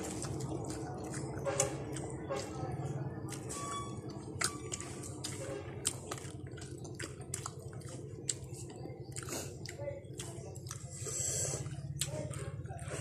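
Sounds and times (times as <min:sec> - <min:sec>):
wet chewing and lip-smacking: 0:00.0 - 0:02.5, 0:03.2 - 0:13.0.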